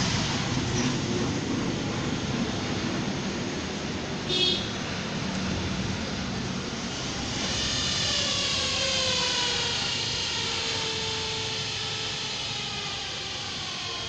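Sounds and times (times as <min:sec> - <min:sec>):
whining mechanical drone: 0:00.0 - 0:14.0.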